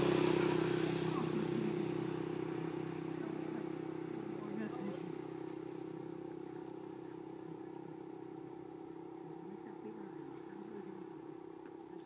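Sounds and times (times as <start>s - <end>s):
motor idling drone: 0.0s - 12.0s.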